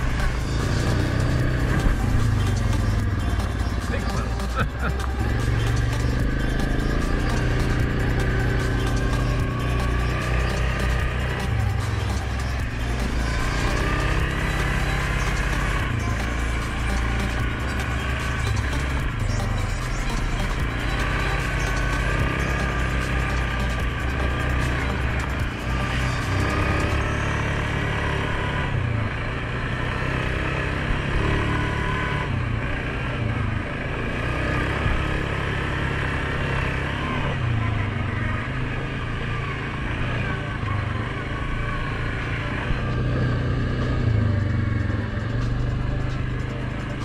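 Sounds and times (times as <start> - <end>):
quad bike engine revving: 0.0 - 47.0.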